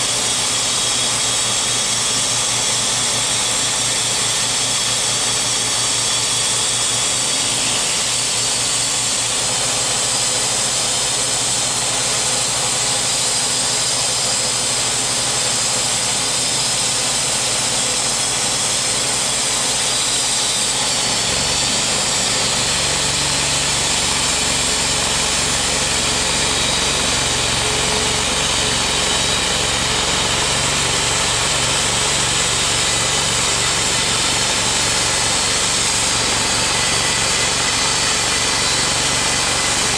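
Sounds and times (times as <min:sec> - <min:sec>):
band blade sawing through log: 0:00.0 - 0:39.9
bandsaw mill running: 0:00.0 - 0:39.9.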